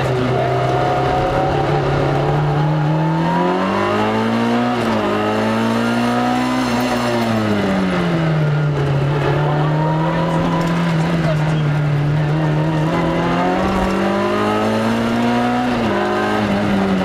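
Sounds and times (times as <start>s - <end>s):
gear change: 0.0s - 17.0s
rally car engine accelerating: 0.0s - 17.0s.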